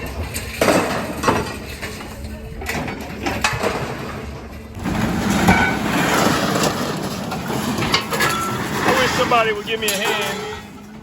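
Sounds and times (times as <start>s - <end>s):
hard items clinking and knocking: 0.0s - 11.0s.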